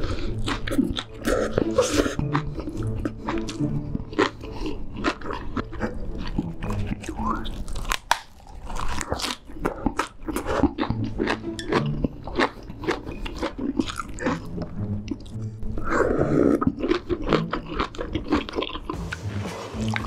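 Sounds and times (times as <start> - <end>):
crisp crunching and chewing: 0.0 - 19.0.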